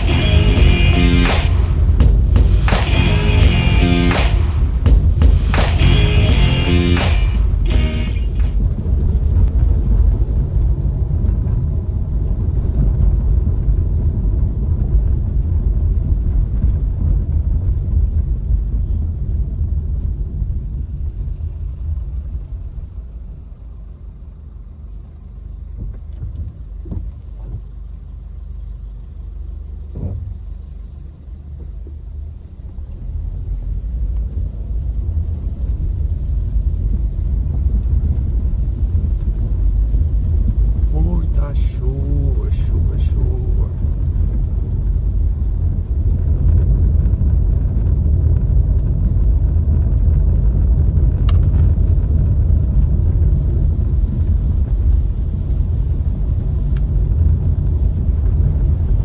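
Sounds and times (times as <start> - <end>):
car road and engine rumble: 8.6 - 59.0.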